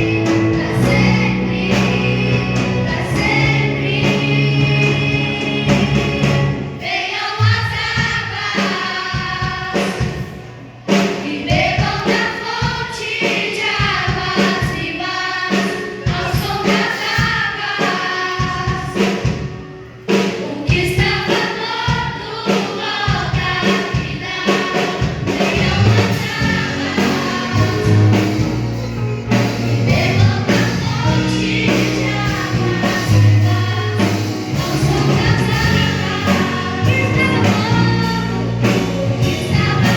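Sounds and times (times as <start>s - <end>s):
choir singing gospel with band: 0.0s - 39.9s.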